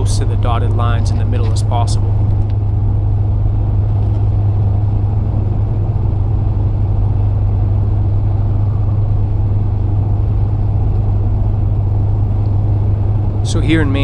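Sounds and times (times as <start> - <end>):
car engine and road noise drone: 0.0 - 14.0.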